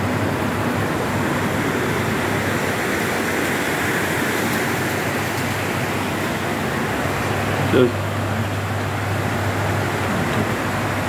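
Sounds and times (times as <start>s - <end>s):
heavy rain on a roof: 0.0s - 11.0s.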